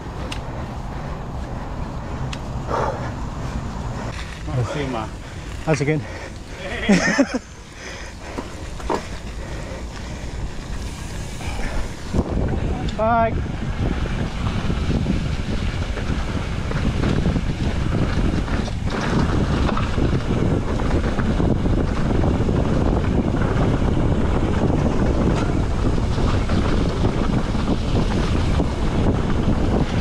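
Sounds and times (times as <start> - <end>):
bike clicks and rattles: 0.0 - 30.0
wind buffeting microphone: 0.0 - 30.0.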